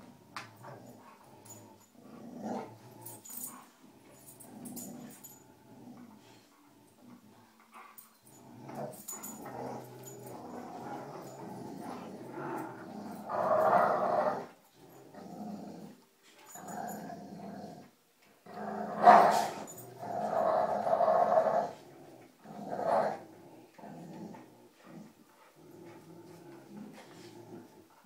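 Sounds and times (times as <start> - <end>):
dogs growling in play: 0.0 - 28.0.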